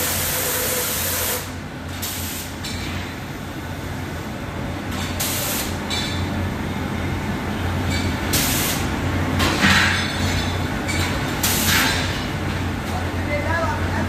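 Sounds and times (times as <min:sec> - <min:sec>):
factory machinery humming: 0:00.0 - 0:14.0.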